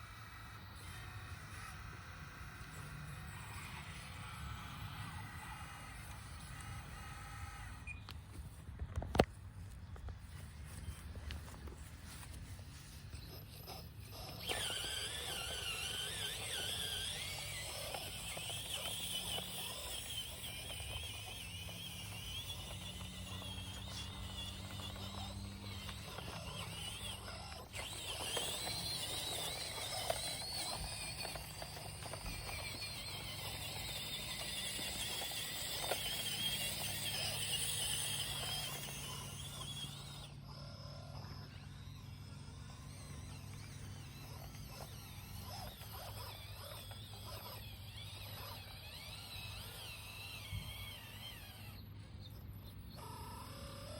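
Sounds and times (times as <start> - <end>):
electric motors whining: 0.0 - 53.9.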